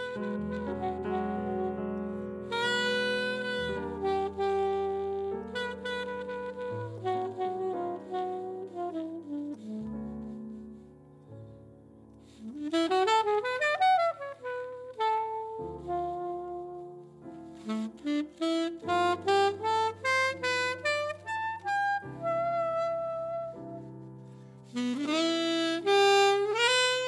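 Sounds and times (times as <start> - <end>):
alto saxophone: 0.0 - 27.0
piano chords: 0.0 - 27.0.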